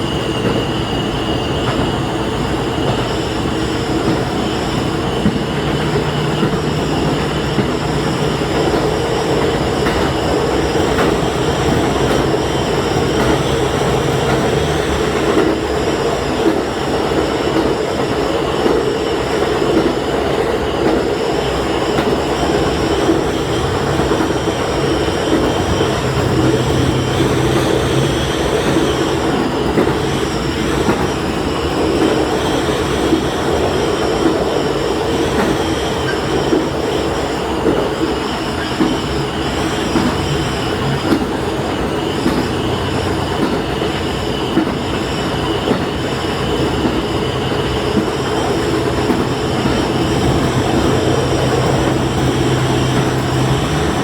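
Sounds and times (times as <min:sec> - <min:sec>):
railcar engine drone: 0:00.0 - 0:54.0
wheel and rail noise: 0:00.0 - 0:54.0.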